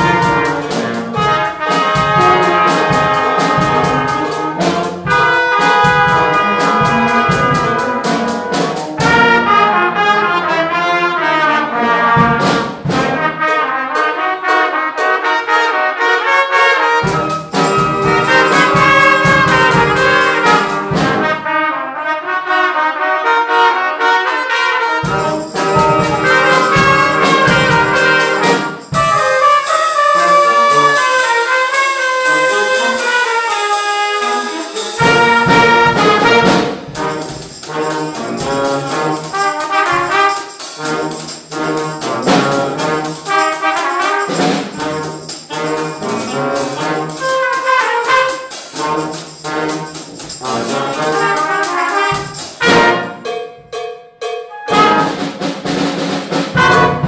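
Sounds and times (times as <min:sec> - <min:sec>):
percussion beat: 0:00.0 - 0:09.6, 0:12.1 - 0:21.5, 0:25.0 - 0:57.0
school band playing brass: 0:00.0 - 0:57.0
trumpets: 0:00.0 - 0:57.0.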